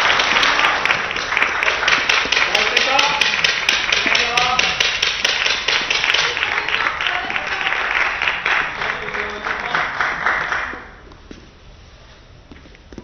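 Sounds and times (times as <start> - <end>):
crowd cheering: 0.0 - 10.9
crowd clapping in rhythm: 0.0 - 11.0.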